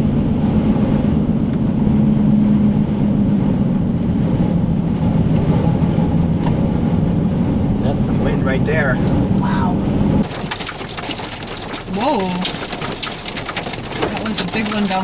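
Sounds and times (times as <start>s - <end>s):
car engine hum: 0.0s - 15.0s
road rumble: 0.0s - 15.0s.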